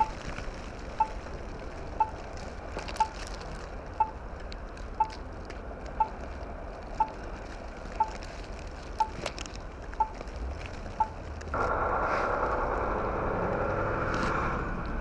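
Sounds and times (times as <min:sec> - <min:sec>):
blizzard wind rushing: 0:00.0 - 0:15.0.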